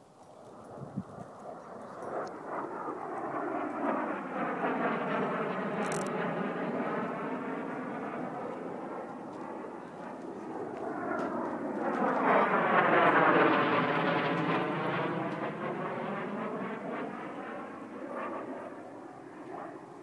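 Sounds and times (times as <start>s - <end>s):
fighter jet flying overhead: 0.0s - 20.0s.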